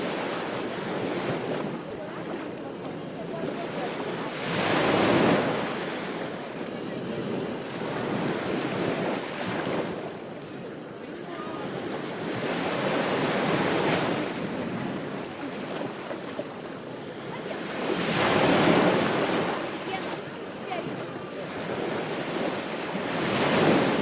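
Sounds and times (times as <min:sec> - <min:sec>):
ocean waves breaking on a beach: 0:00.0 - 0:24.0.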